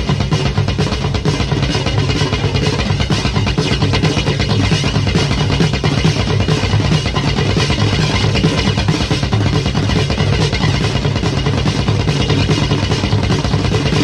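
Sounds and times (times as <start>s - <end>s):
bass guitar: 0.0s - 14.0s
drum kit beating: 0.0s - 14.0s.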